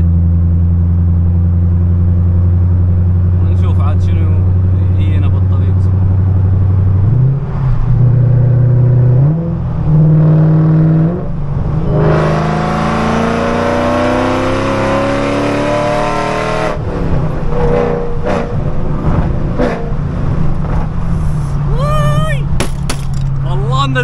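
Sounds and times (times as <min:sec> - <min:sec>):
car engine revving and accelerating: 0:00.0 - 0:21.7.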